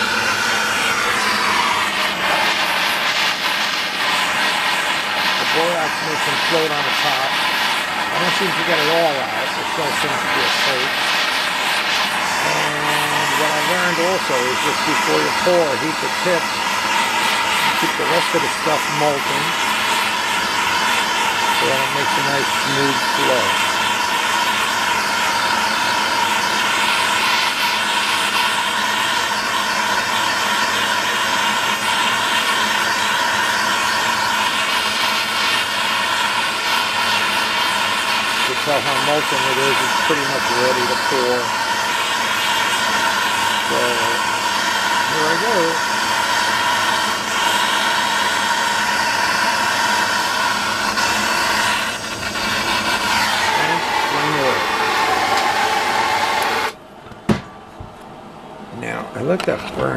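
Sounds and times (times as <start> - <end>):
gas torch burning: 0.0 - 59.9.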